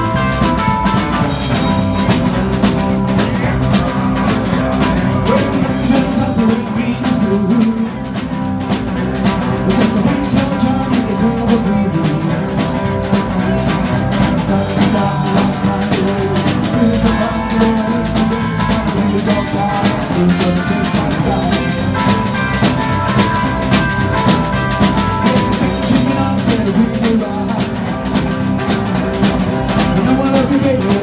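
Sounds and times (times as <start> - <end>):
drum kit beat: 0.0 - 31.0
electric guitar: 0.0 - 31.0.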